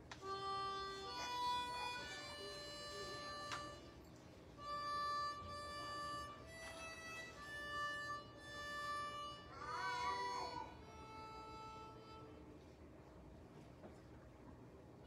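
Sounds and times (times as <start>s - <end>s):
harmonica playing slow melody: 0.0s - 12.7s.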